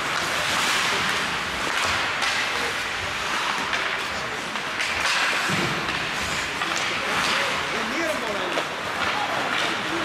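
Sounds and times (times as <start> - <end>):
skates scraping ice: 0.0 - 10.0
stick and puck clacks: 0.0 - 10.0.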